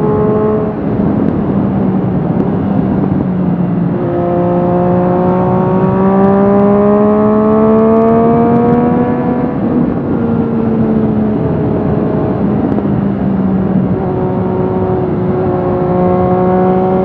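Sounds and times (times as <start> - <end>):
motorcycle exhaust accelerating: 0.0 - 17.0
wind rushing: 0.0 - 17.0.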